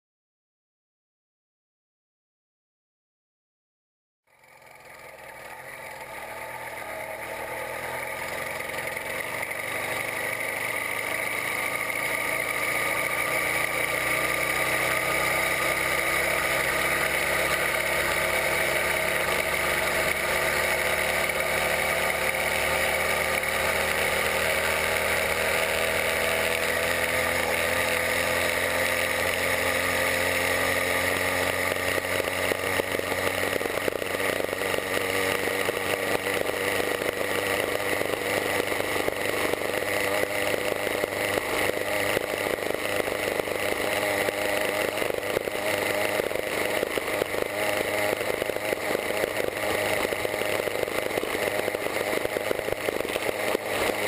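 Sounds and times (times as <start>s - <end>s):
two-stroke engine buzzing: 4.3s - 54.0s.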